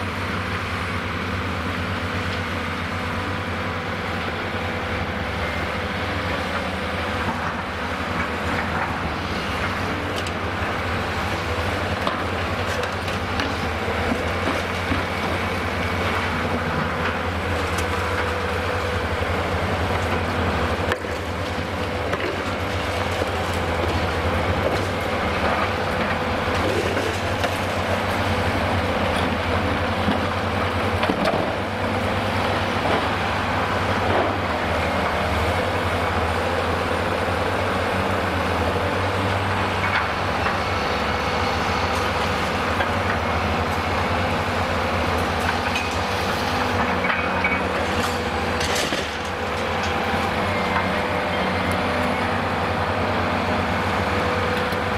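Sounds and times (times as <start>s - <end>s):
diesel engine drone: 0.0s - 54.9s.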